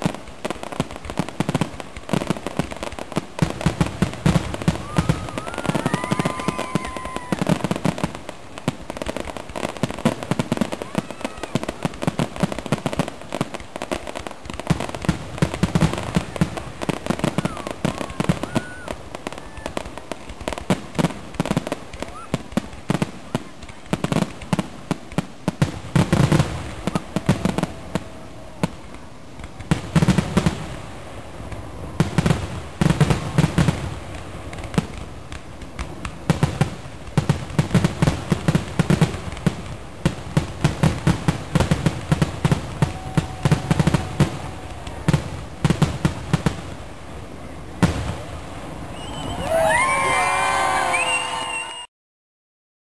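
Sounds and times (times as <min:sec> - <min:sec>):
deep firework booms: 0:00.0 - 0:49.9
fireworks crackling and popping: 0:00.0 - 0:51.8.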